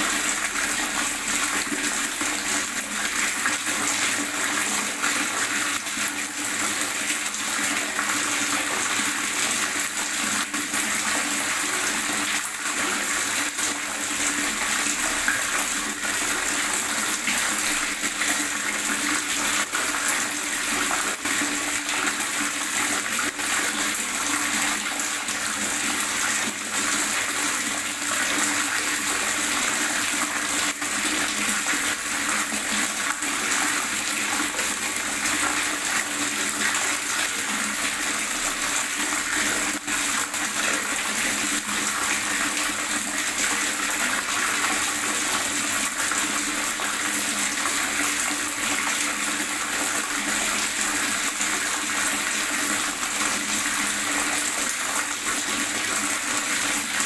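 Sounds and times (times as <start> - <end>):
water gurgling: 0.0 - 57.0.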